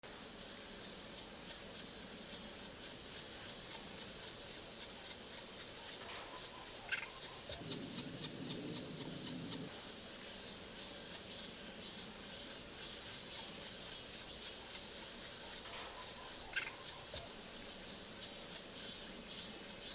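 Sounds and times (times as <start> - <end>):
small animal chirping: 0.2 - 19.9.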